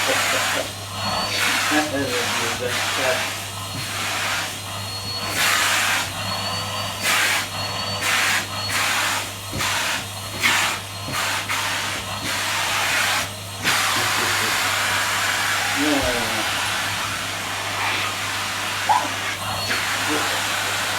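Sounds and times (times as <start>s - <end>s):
vacuum cleaner running: 0.0s - 20.9s.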